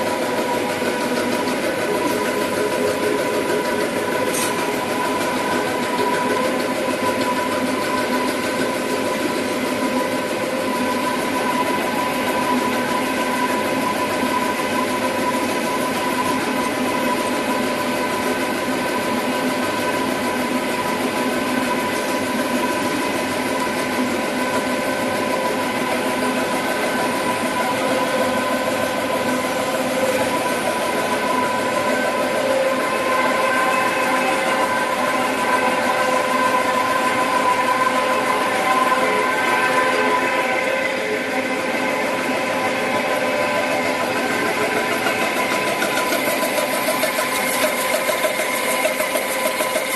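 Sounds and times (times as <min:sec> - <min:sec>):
printing machine running: 0:00.0 - 0:49.9.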